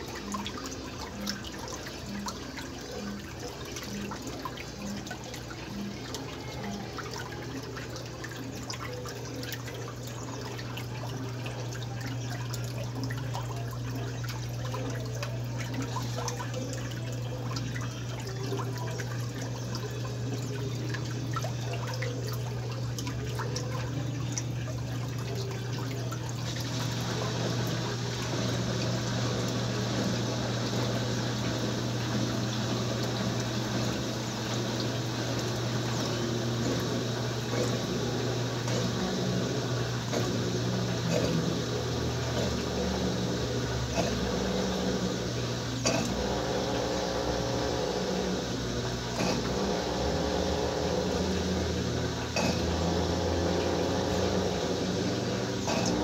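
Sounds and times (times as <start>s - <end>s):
washing machine low hum: 0.0s - 56.0s
water rushing into washing machine: 0.0s - 56.0s.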